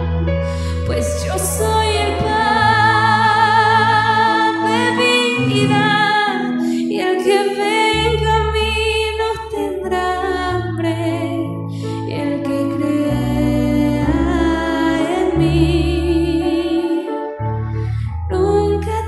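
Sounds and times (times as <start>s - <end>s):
violin melody with vibrato: 0.0s - 9.9s, 12.0s - 19.0s
sustained low keyboard notes: 0.0s - 19.0s
woman singing a hymn: 0.7s - 17.3s, 18.3s - 19.0s.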